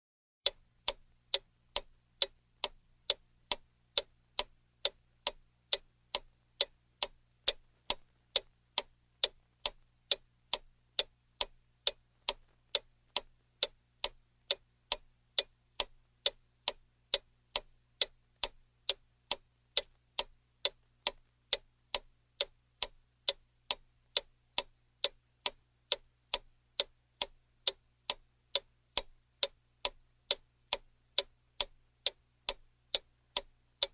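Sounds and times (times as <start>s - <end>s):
clock ticking: 0.4s - 33.9s.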